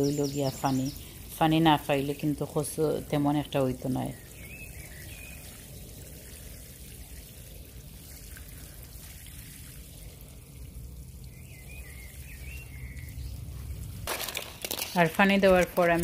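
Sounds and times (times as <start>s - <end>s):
water pouring onto soil: 0.0s - 16.0s.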